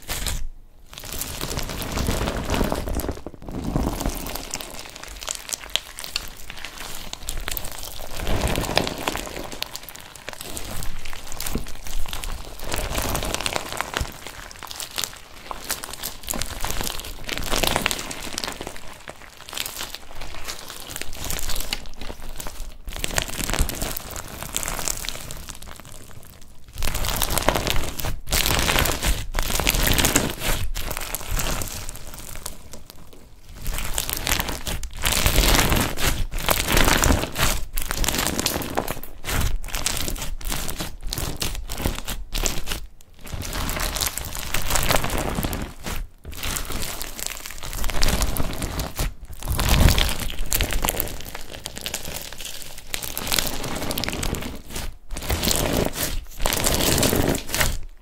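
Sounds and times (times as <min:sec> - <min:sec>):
beaded slime crackling and squelching: 0:00.0 - 0:58.0.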